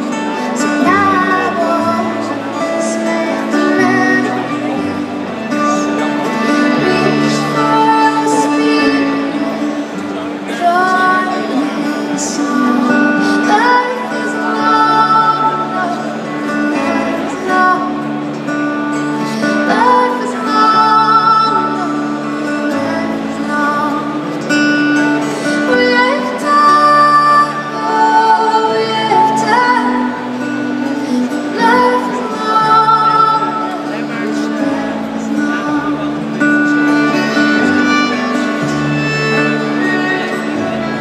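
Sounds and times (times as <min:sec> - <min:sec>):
woman singing: 0:00.0 - 0:09.8, 0:10.4 - 0:37.8
acoustic band playing: 0:00.0 - 0:41.0.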